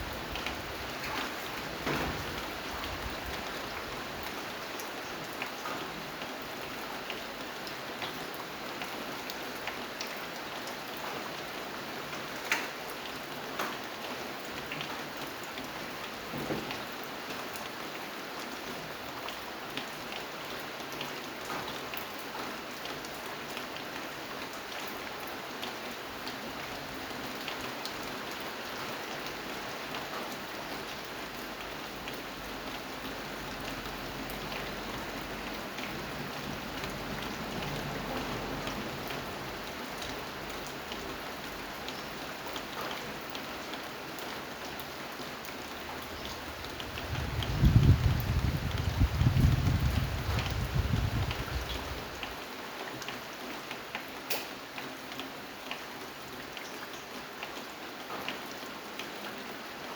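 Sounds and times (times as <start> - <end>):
rain falling: 0.0 - 59.9
raindrops ticking on a surface: 0.0 - 59.9.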